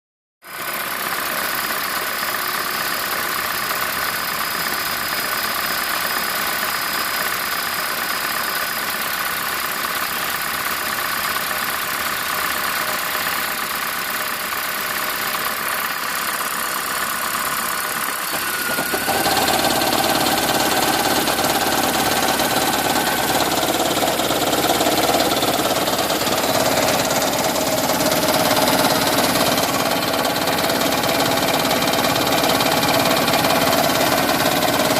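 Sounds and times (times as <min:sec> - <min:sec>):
car engine knocking: 0:00.5 - 0:34.9.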